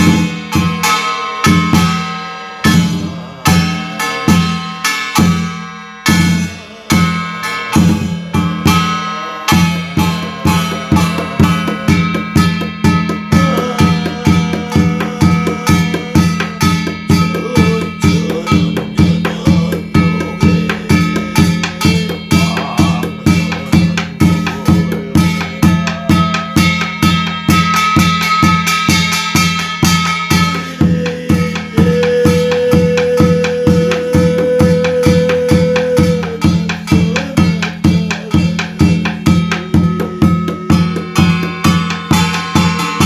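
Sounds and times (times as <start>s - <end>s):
barrel drum beaten with a stick: 0.0s - 43.0s.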